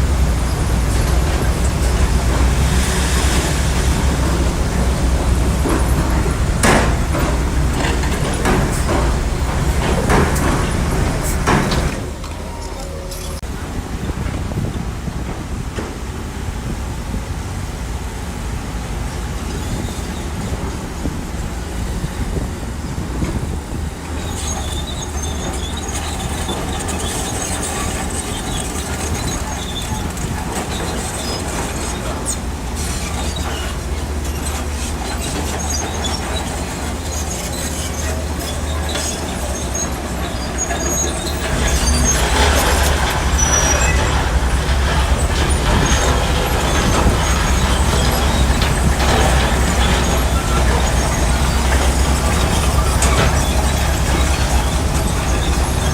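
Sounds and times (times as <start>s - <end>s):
bulldozer diesel engine running: 0.0s - 55.9s
steel tracks clanking and squeaking: 0.0s - 55.9s.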